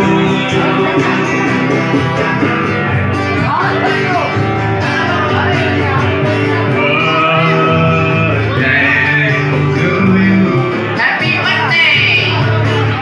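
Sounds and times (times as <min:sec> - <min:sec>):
person singing: 0:00.0 - 0:13.0
strummed acoustic guitar: 0:00.0 - 0:13.0.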